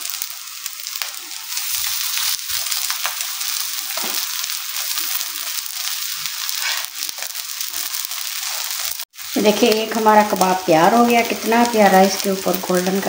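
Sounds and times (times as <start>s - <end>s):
patties sizzling on griddle: 0.0s - 13.0s.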